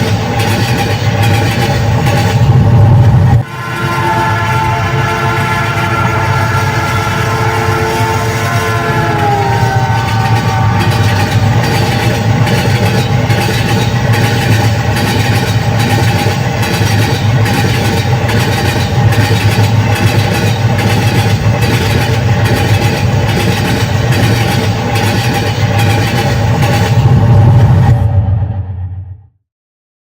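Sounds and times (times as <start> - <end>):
wheels crossing rail joints: 0.0 - 27.9
train rumbling: 0.0 - 29.2.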